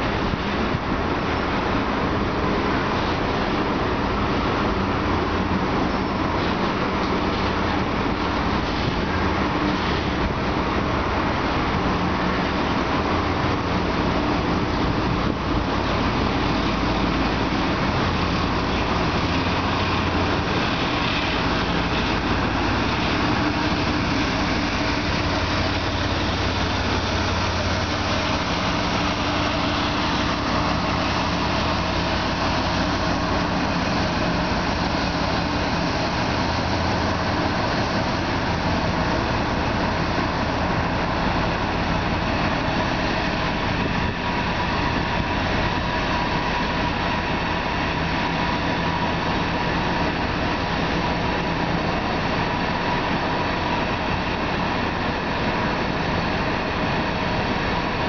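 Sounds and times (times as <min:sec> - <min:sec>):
diesel locomotive engine running: 0:00.0 - 0:58.0
train cars rumbling on rails: 0:00.0 - 0:58.0.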